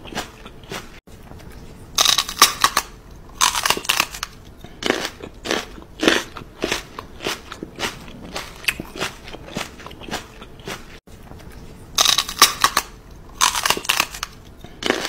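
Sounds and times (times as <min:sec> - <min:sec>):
person chewing crunching: 0:00.0 - 0:01.0, 0:02.0 - 0:11.0, 0:12.0 - 0:15.0.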